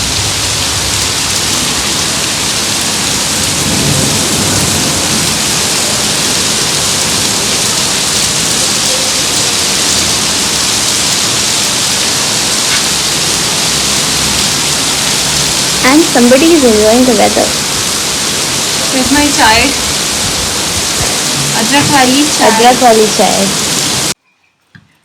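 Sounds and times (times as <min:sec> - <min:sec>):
rain falling: 0:00.0 - 0:24.2.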